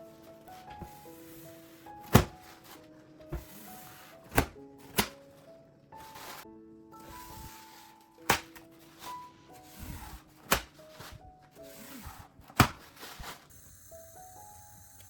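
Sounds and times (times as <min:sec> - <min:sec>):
light background music: 0:00.0 - 0:15.0.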